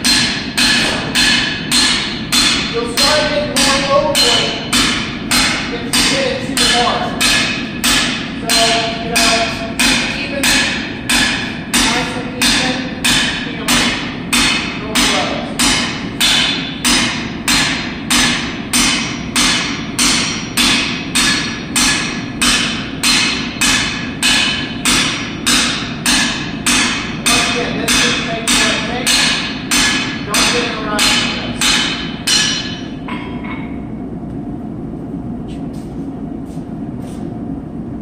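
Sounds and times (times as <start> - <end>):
hammer striking iron on anvil: 0.0 - 33.9.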